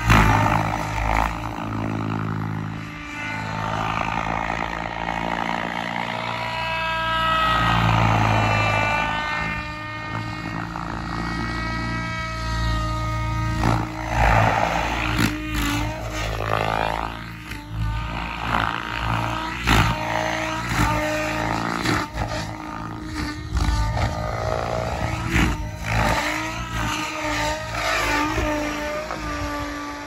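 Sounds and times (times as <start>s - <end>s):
model helicopter rotor and motor whine: 0.0s - 30.0s.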